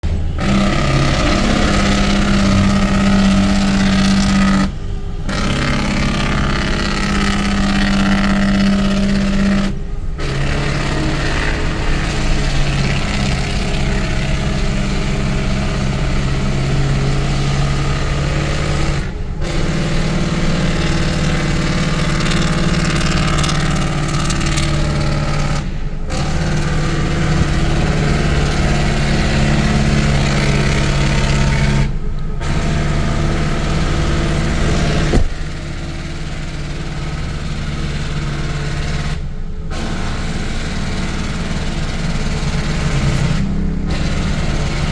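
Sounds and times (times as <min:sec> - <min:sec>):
diesel engine brake rattling drone: 0:00.0 - 0:44.9.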